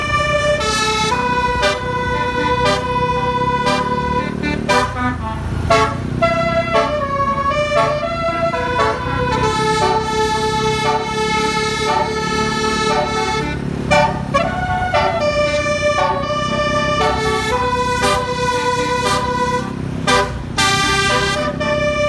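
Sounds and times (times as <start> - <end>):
multi-tone air horn melody: 0.0 - 22.0.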